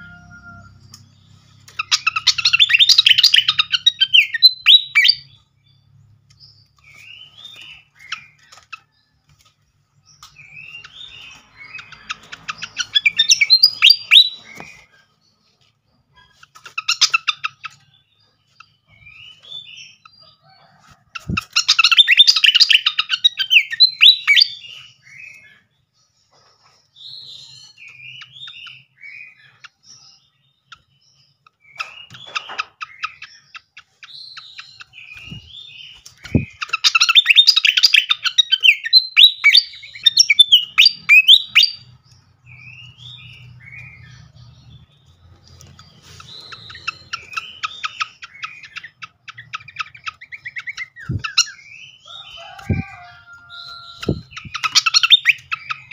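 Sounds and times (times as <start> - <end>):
bird chattering chirps and whistles: 0.0 - 5.5, 10.1 - 15.1, 16.1 - 25.7, 26.3 - 55.9.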